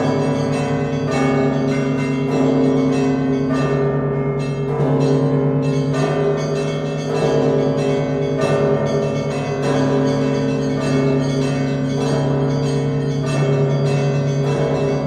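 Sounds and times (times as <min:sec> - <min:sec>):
low church bells: 0:00.0 - 0:15.0.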